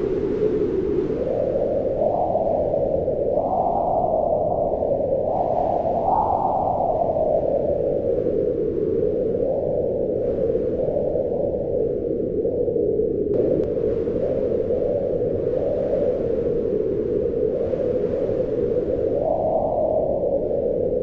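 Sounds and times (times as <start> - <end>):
strong wind howling: 0.0 - 21.0.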